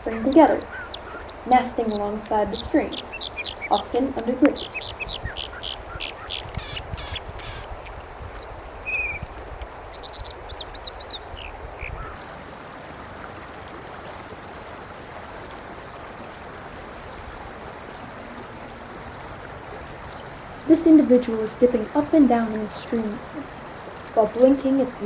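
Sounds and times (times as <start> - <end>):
fast-flowing stream rushing: 0.0 - 6.0, 7.8 - 25.0.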